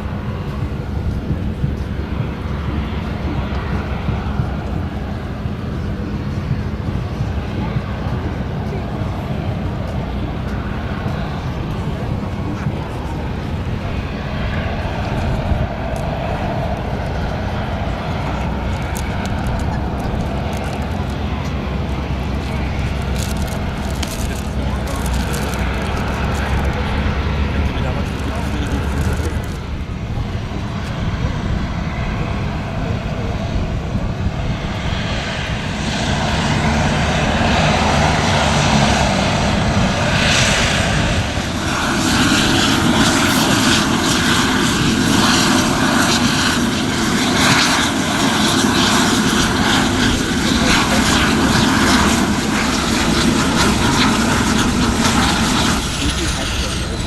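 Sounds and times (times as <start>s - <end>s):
aircraft engine drone: 0.0s - 57.0s.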